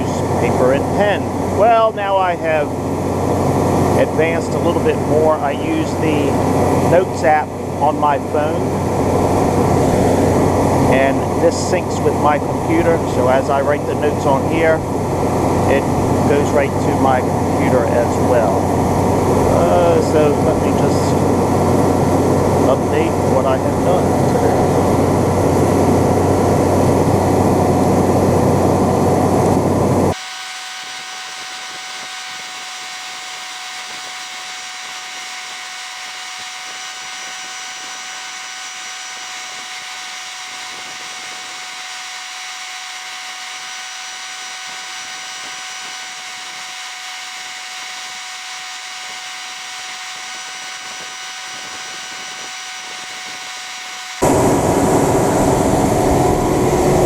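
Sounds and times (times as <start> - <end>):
engine humming with low drone: 0.0 - 57.0
steady multi-tone whine: 0.0 - 57.0.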